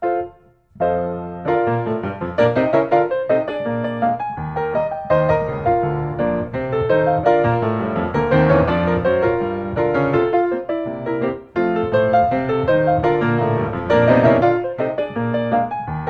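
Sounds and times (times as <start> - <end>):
ragtime piano piece: 0.0 - 16.0.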